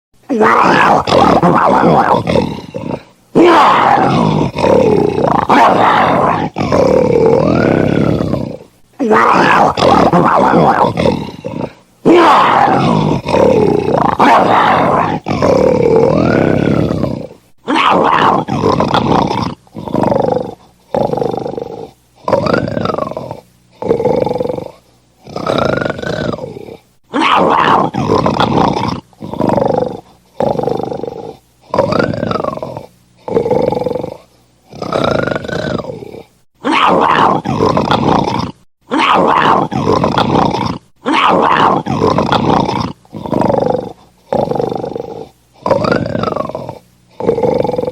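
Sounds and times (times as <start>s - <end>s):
lion roaring and snarling: 0.3s - 47.9s.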